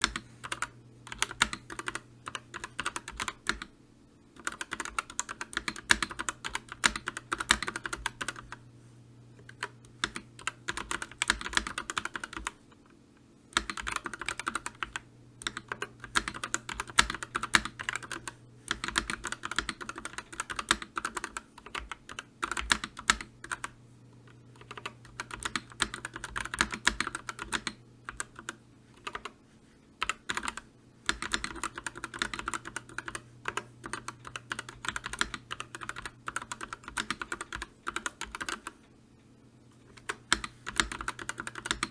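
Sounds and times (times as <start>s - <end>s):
keyboard typing clicks: 0.0s - 3.7s, 4.4s - 8.6s, 9.4s - 12.6s, 13.6s - 23.8s, 24.6s - 29.3s, 30.0s - 38.8s, 39.9s - 41.9s.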